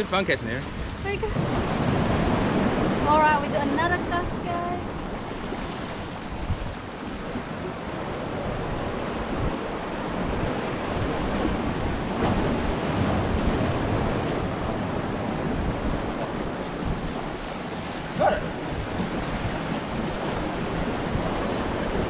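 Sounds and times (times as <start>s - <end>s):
waves washing against rocks: 0.0s - 22.0s
wind buffeting microphone: 0.0s - 22.0s.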